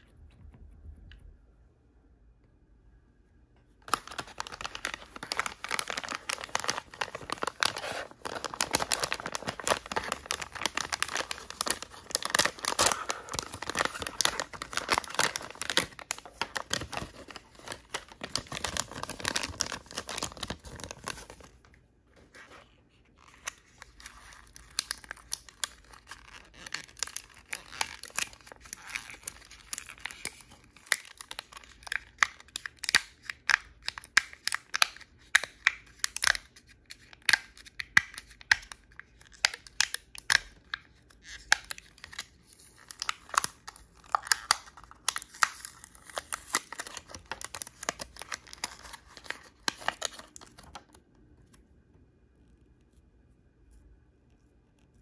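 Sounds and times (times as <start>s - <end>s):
wrapper crinkling and tearing: 3.9s - 21.7s, 23.1s - 51.0s.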